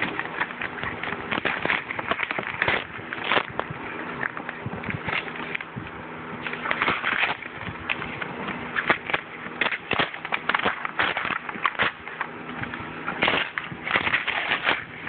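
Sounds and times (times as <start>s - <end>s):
cardboard and paper ripping: 0.0s - 5.8s, 6.4s - 15.0s
faint low hum: 0.0s - 15.0s.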